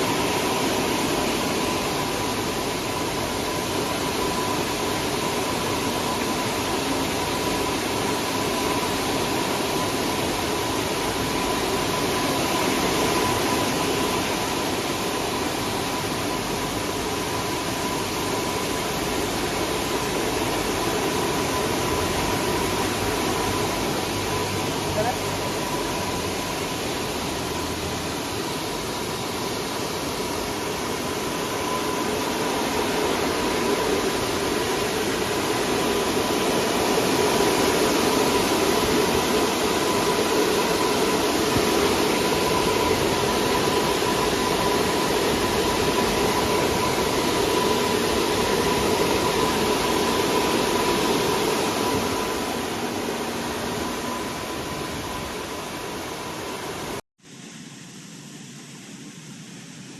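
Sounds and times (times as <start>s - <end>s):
thin machine whine: 0.0s - 59.9s.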